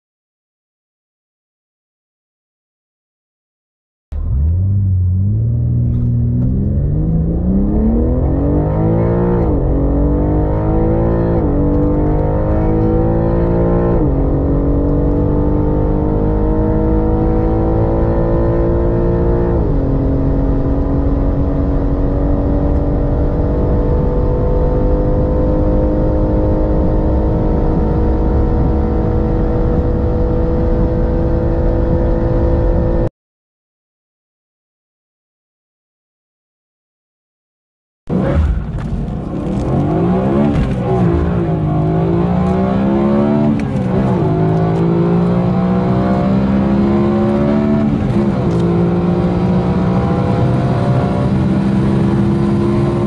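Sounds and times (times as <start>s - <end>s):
car engine accelerating with upshifts: 4.1s - 33.1s, 38.1s - 53.0s.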